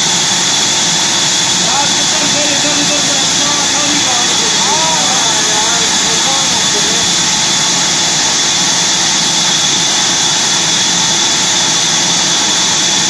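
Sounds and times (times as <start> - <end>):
band saw running: 0.0 - 13.0.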